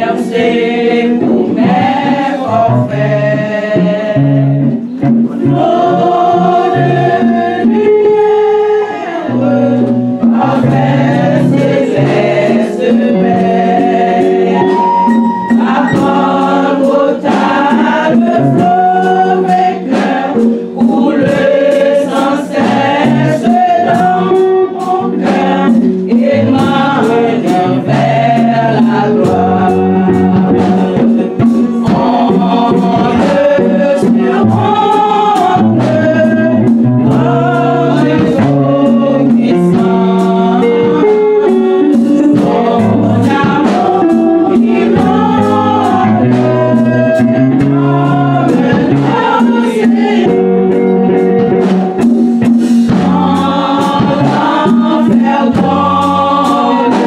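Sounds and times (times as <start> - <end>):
steady percussive beat: 0.0 - 8.4, 9.4 - 57.0
gospel choir singing: 0.0 - 57.0.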